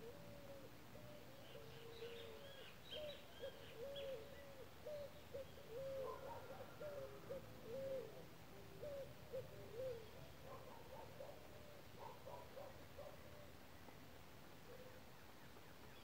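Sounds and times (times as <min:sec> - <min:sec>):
bird hooting: 0:00.0 - 0:13.5.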